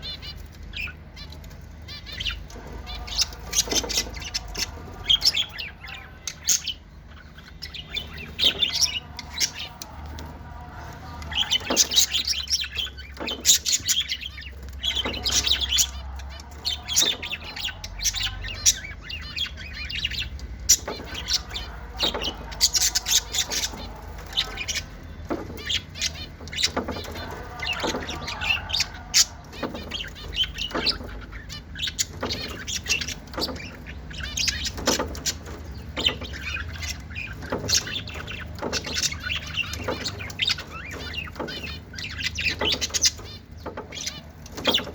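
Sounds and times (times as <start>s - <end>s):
lovebirds chirping: 0.0s - 44.9s.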